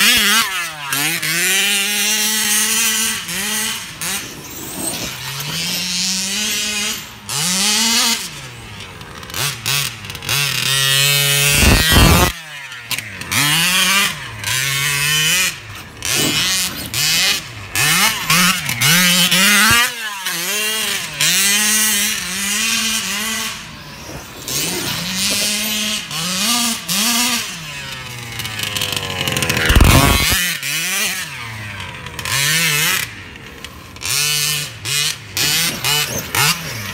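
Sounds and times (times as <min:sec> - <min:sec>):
rc car motor revving: 0:00.0 - 0:36.9.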